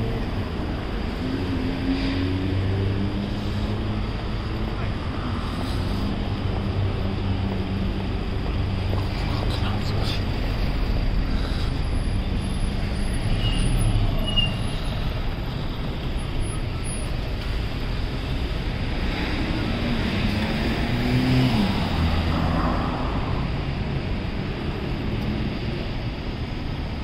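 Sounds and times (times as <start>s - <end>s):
vehicles passing on street: 0.0s - 27.0s.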